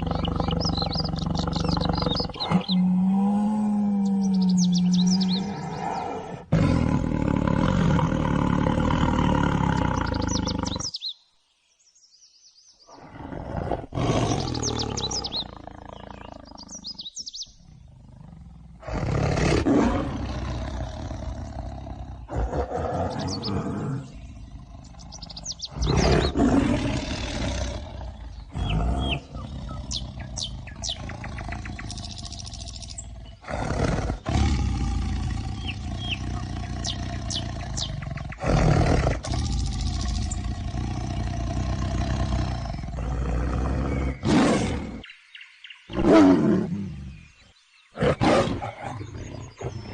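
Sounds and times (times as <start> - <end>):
tigers roaring: 0.0 - 10.9, 12.9 - 45.1, 45.9 - 47.3, 48.0 - 49.9
birds chirping: 0.0 - 49.9.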